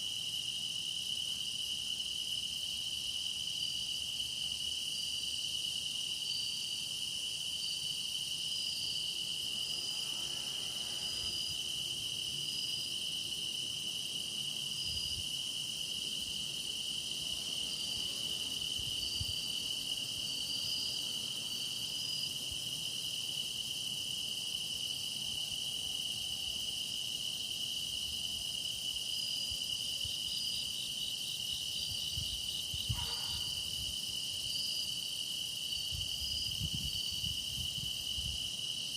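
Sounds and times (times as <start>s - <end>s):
fast pulsing insect call: 0.0s - 38.9s
insects trilling in chorus: 0.0s - 38.9s.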